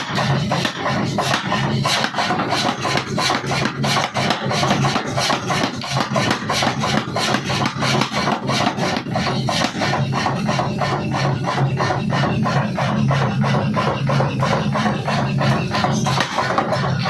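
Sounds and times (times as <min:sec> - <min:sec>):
forging hammer pounding: 0:00.0 - 0:17.0.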